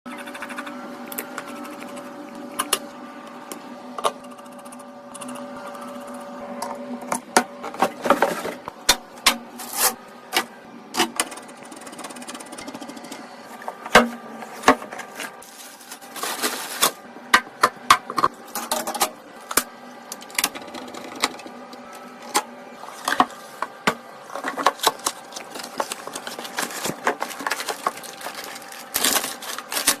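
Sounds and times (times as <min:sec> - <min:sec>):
steady hum: 0:00.1 - 0:30.0.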